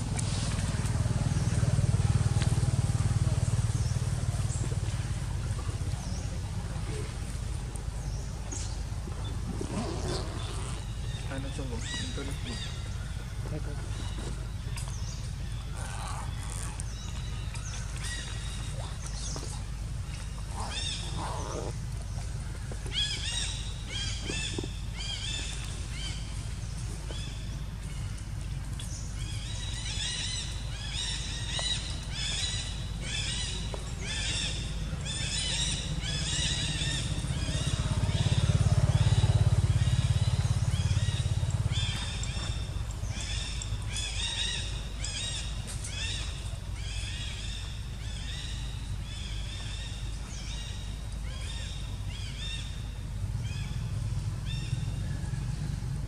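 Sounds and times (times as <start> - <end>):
low engine drone: 0.0 - 56.0.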